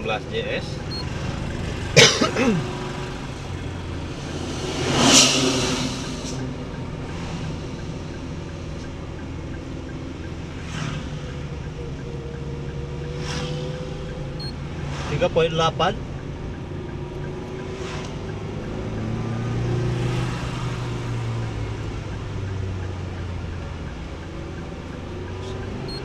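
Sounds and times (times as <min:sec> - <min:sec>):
car engine and tyre drone: 0:00.0 - 0:26.0
passing vehicle whoosh: 0:02.6 - 0:26.0.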